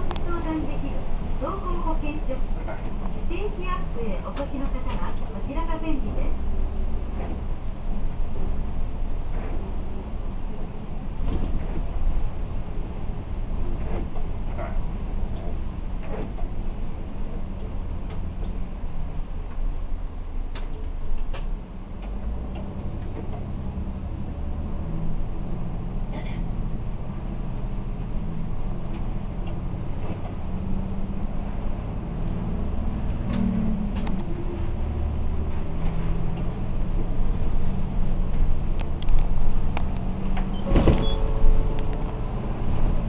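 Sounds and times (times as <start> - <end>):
bus body clicks and rattles: 0.0 - 43.0
bus engine running: 0.0 - 43.0.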